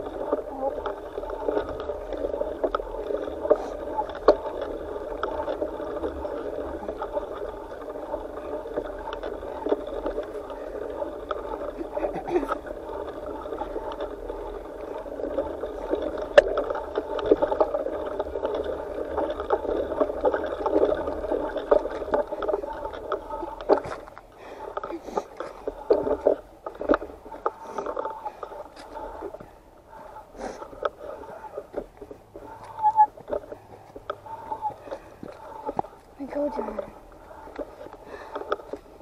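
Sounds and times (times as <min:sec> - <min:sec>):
bicycle tyres rolling rumble: 0:00.0 - 0:39.0
bike clicks and rattles: 0:00.0 - 0:39.0.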